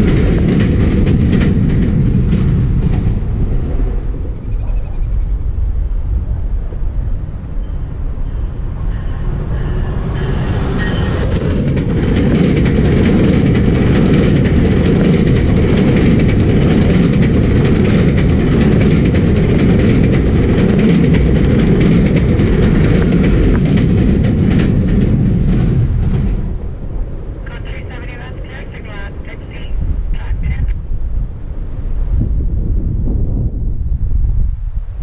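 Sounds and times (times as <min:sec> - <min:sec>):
wheels clickety-clack on rail: 0:00.0 - 0:05.3, 0:06.3 - 0:29.1
train passing at speed: 0:00.0 - 0:35.0.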